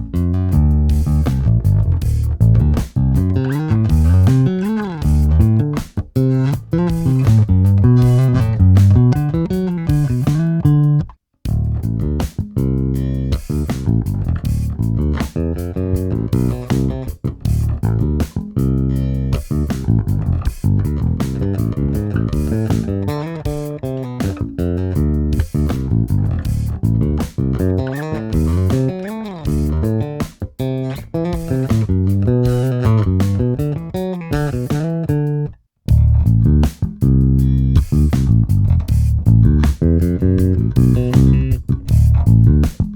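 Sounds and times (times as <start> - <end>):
electric bass plucked notes: 0.0 - 42.9.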